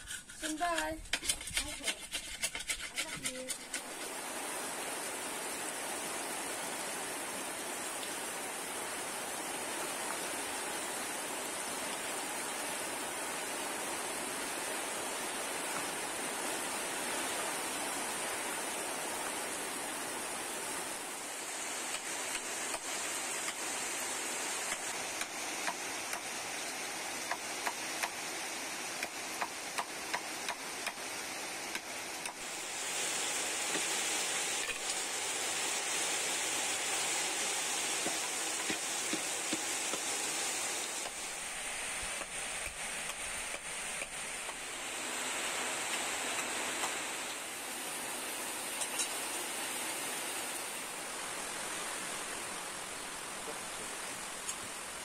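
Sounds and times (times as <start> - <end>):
rain hissing: 0.0 - 55.0.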